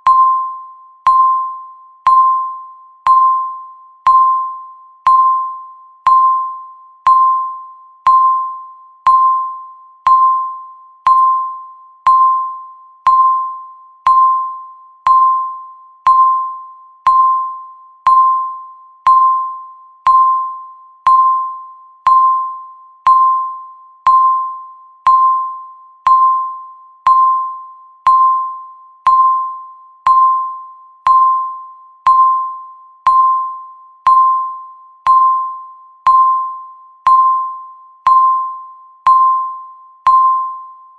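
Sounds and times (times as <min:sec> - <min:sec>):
countdown timer electronic tick: 0:00.0 - 0:40.8.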